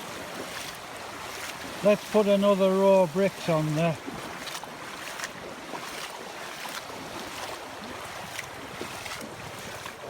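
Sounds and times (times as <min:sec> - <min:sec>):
floodwater rushing: 0:00.0 - 0:10.0
short water splashes: 0:00.0 - 0:10.0.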